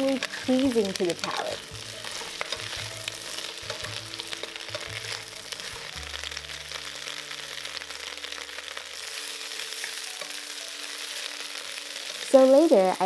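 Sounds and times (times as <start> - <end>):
cabbage sizzling in hot oil: 0.0 - 13.0.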